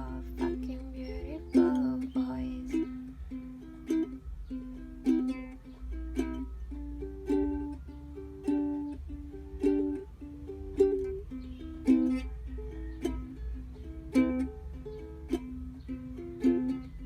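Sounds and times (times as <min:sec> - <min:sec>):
ukulele playing: 0:00.0 - 0:17.0.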